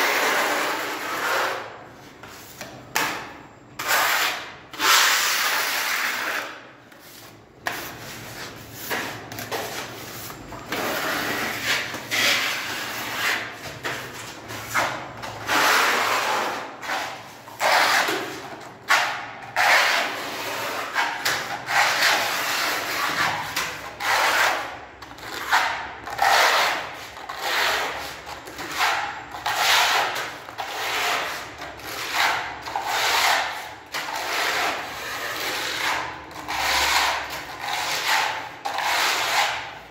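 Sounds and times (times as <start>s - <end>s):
sanding block rubbing wall: 0.0s - 2.7s, 3.8s - 39.8s.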